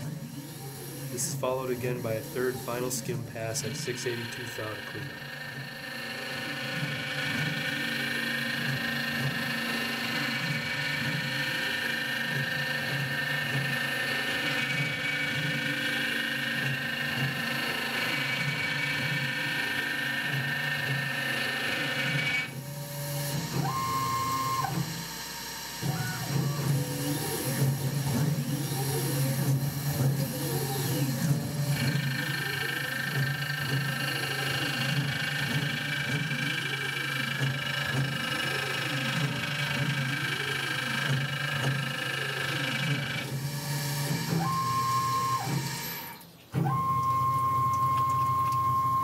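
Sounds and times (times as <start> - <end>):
milling machine whine: 0.0 - 49.0.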